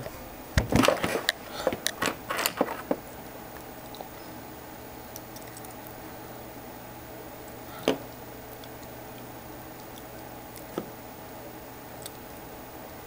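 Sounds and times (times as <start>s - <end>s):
faint hum: 0.0s - 13.0s
room hiss: 0.0s - 13.0s.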